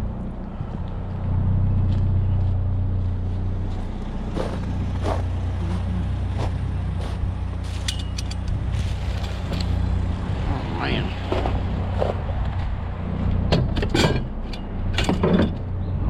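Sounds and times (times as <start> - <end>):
pickup engine running: 0.0 - 15.9.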